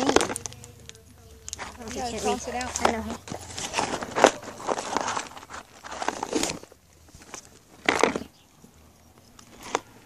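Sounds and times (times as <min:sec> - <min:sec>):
dog crunching food: 0:00.0 - 0:08.3.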